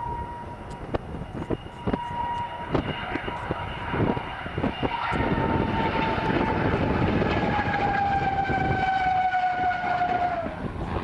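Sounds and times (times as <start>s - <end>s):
jet engine rushing with high whine: 0.0s - 11.0s.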